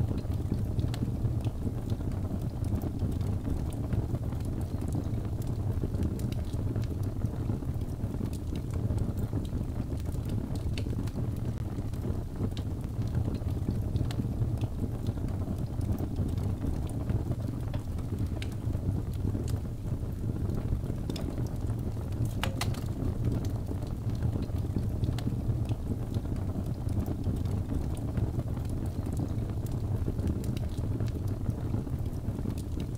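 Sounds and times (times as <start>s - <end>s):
fire crackles and pops: 0.0s - 32.9s
low rumble of flames: 0.0s - 32.9s.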